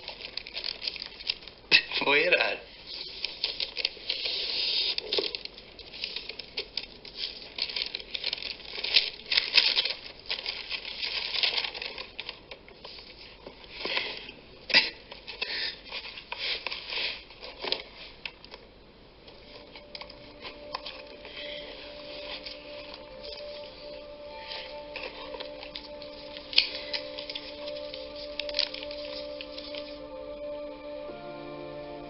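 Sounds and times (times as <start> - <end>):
paper and gift box rustling: 0.0 - 14.3, 15.1 - 18.6, 19.2 - 30.2.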